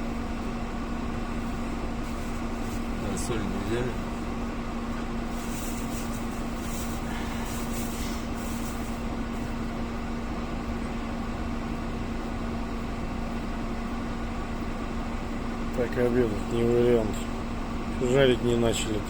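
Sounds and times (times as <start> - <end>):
machine humming drone: 0.0 - 19.0.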